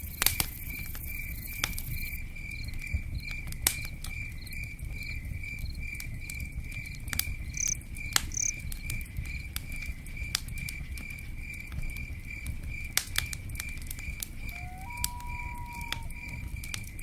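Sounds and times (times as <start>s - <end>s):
campfire snaps: 0.0s - 17.0s
cricket chirping: 0.0s - 17.0s
rain pattering: 0.0s - 17.0s.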